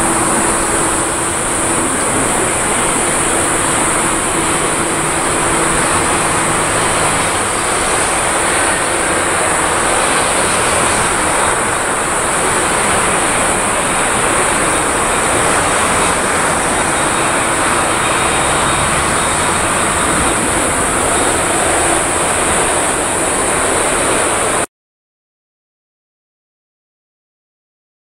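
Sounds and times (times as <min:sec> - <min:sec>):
high-pitched hiss: 0:00.0 - 0:24.6
jet engines at takeoff: 0:00.0 - 0:24.7.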